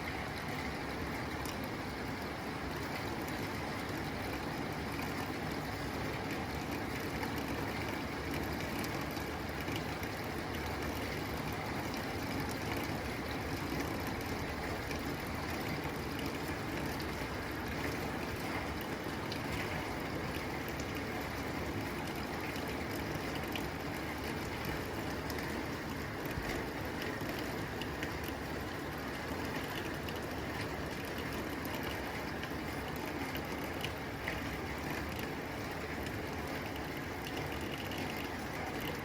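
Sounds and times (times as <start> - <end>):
rain pattering on a tin roof: 0.0 - 39.0.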